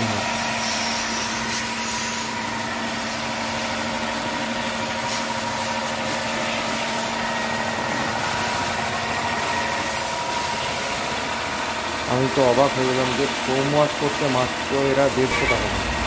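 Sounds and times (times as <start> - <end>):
air compressor humming: 0.0 - 16.0.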